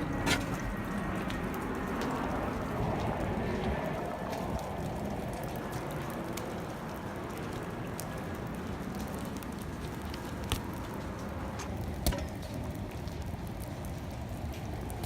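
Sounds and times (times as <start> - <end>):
faint crackles: 0.0 - 15.0.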